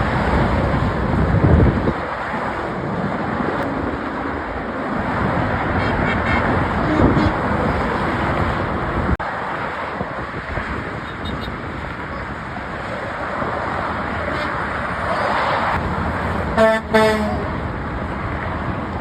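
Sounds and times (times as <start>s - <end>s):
freeway traffic rushing past: 0.0s - 19.0s.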